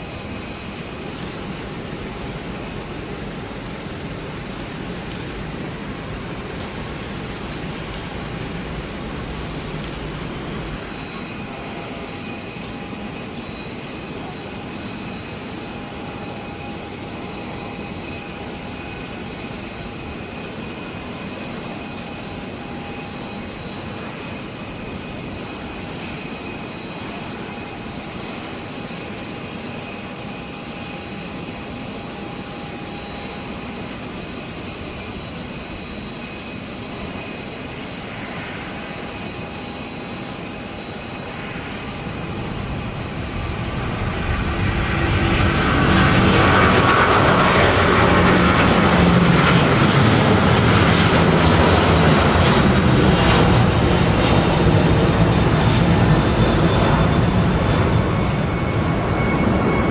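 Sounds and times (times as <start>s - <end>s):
jet engines at high power: 0.0s - 59.9s.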